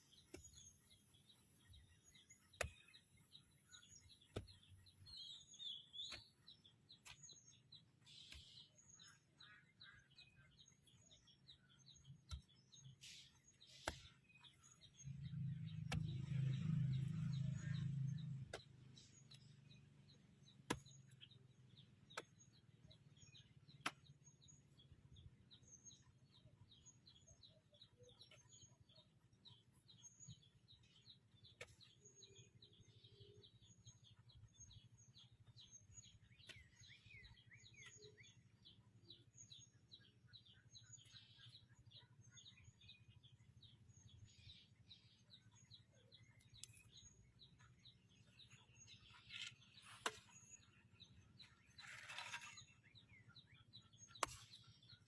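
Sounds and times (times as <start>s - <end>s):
faint small bird chirping: 0.0s - 55.0s.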